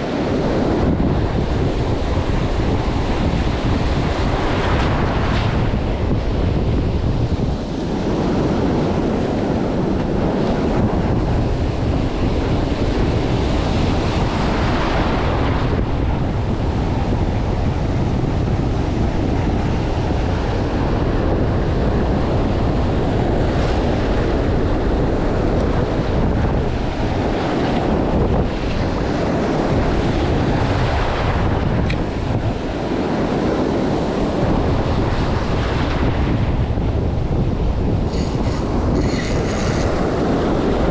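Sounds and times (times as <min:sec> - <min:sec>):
ocean surf breaking: 0:00.0 - 0:40.9
wind buffeting microphone: 0:00.0 - 0:40.9.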